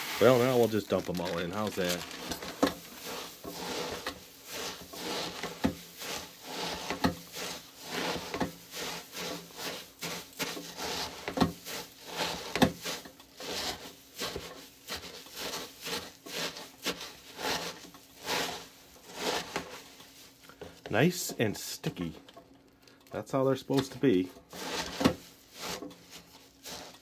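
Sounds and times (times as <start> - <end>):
cereal rustling and crunching: 0.0 - 27.0.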